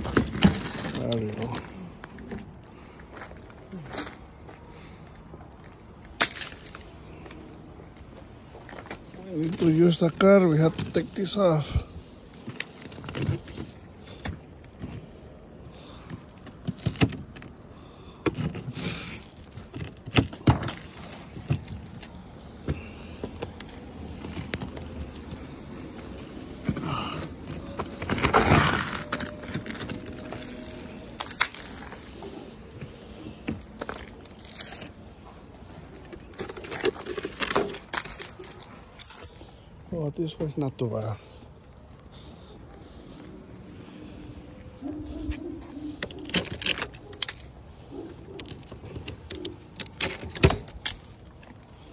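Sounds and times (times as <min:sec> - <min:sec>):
ice cracking and crunching: 0:00.0 - 0:04.5, 0:05.6 - 0:07.5, 0:08.6 - 0:15.0, 0:15.7 - 0:39.4, 0:45.9 - 0:51.9.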